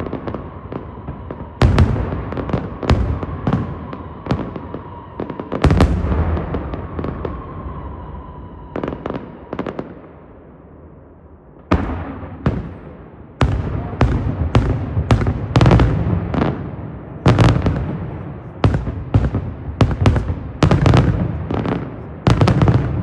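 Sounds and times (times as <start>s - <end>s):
fireworks bangs: 0.0s - 10.7s, 11.6s - 23.0s.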